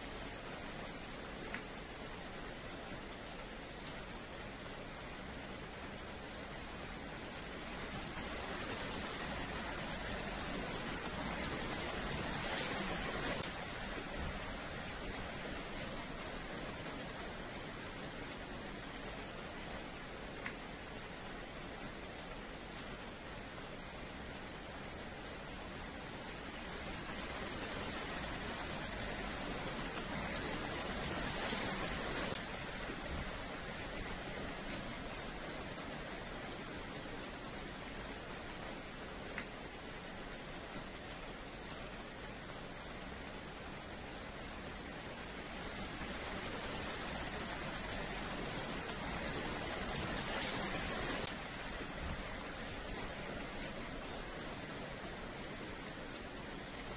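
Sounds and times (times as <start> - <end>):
rain on pavement: 0.0 - 56.9.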